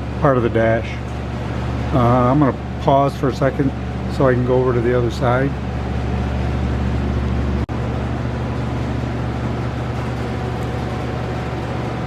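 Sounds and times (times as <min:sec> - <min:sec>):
low machine hum with hiss: 0:00.0 - 0:12.0.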